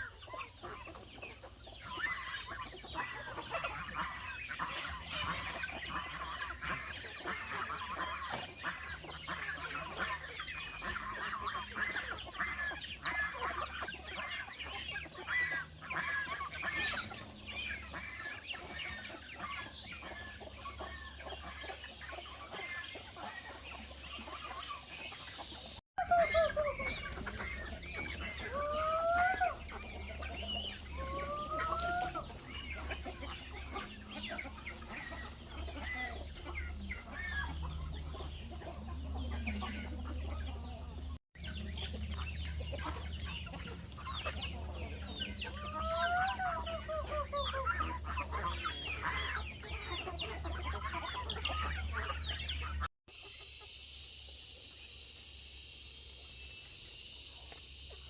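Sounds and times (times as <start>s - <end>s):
chickens clucking: 0.0s - 53.7s.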